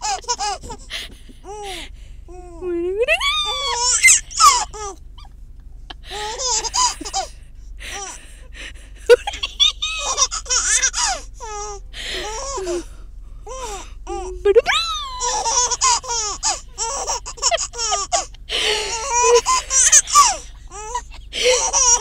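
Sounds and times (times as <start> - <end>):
baby laughing: 0.0 - 2.6, 3.3 - 5.0, 6.1 - 7.3, 9.1 - 12.8, 13.5 - 22.0
moving car rumble: 0.0 - 22.0.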